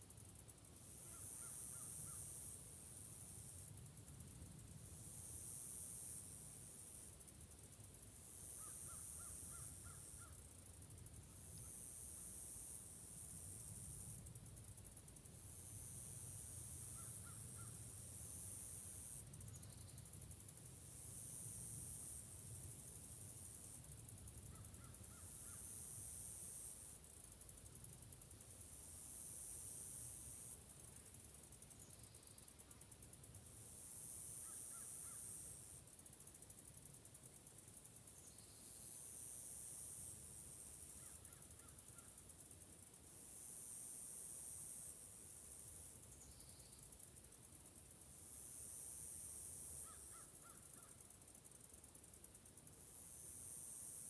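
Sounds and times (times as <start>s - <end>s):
steady high hiss: 0.2s - 54.0s.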